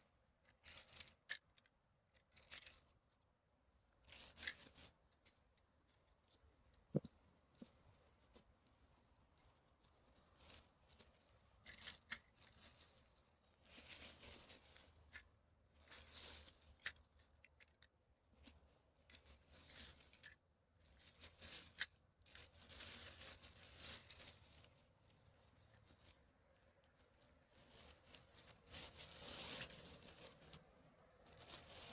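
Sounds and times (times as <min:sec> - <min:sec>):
litter rustling and crinkling: 0:00.4 - 0:03.2, 0:04.0 - 0:31.9.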